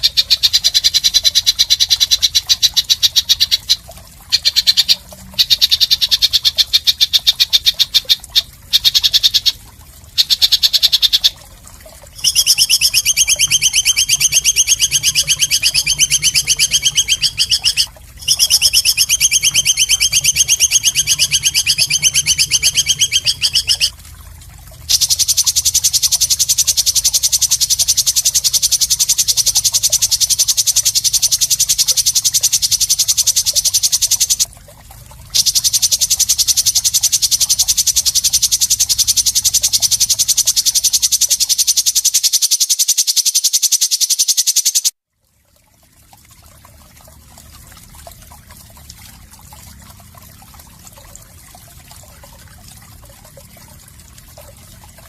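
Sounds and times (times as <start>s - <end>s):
faint trickle of water: 0.0s - 55.0s.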